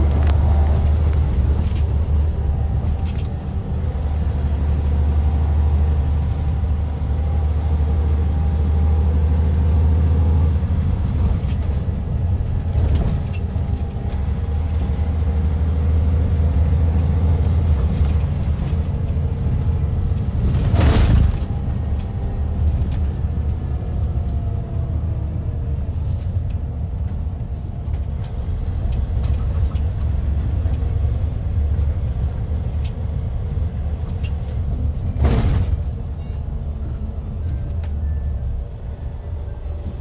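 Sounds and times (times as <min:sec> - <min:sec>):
diesel coach engine rumbling: 0:00.0 - 0:40.0.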